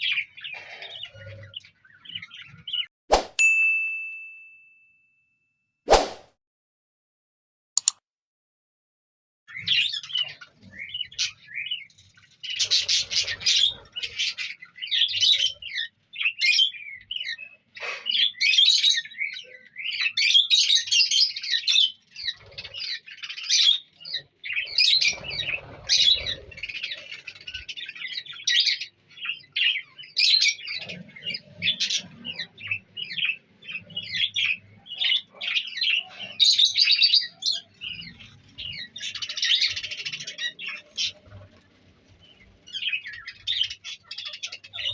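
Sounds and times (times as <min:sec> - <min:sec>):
birds chattering and chirping: 0:00.0 - 0:02.9, 0:09.5 - 0:44.9.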